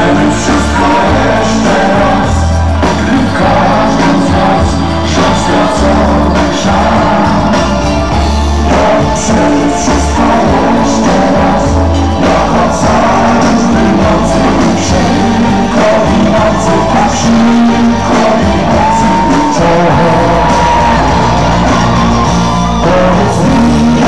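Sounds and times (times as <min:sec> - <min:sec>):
live pop band playing: 0:00.0 - 0:24.0
person singing: 0:00.0 - 0:24.0.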